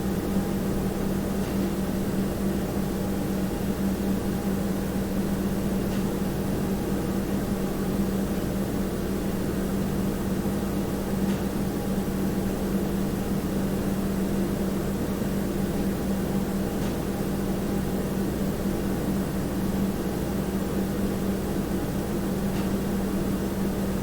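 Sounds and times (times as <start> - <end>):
steady room hum: 0.0 - 24.0.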